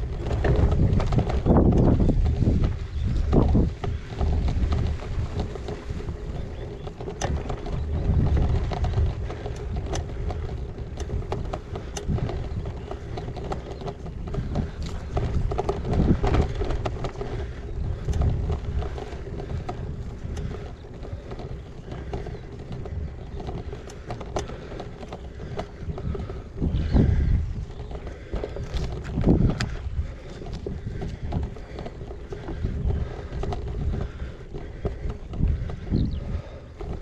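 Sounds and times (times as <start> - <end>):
bike knocking and rattling: 0.0 - 37.0
tyres rumbling on gravel: 0.0 - 37.0
wind on microphone: 0.0 - 37.0.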